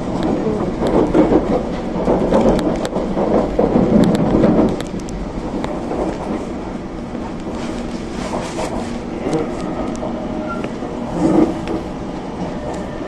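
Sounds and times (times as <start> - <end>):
train rumble from inside: 0.0 - 13.0.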